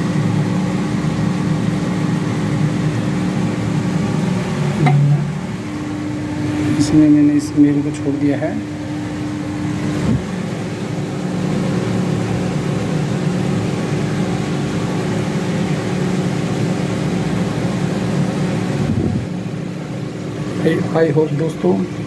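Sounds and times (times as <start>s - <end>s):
aquarium air pump humming: 0.0s - 22.0s.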